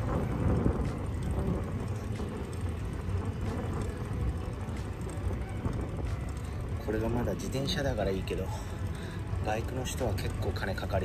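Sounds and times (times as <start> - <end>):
low road rumble: 0.0 - 11.0
wind buffeting microphone: 0.0 - 11.0.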